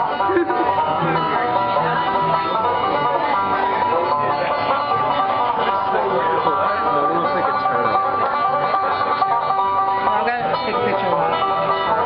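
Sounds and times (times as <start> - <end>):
plucked string instruments music: 0.0 - 12.0.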